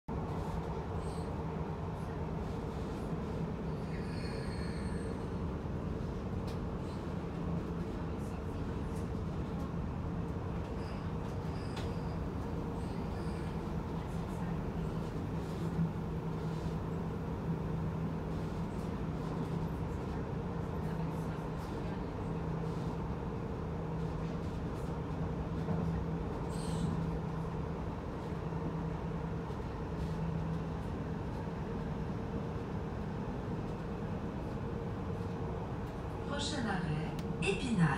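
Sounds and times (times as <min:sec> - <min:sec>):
train rumbling along track: 0:00.1 - 0:37.9.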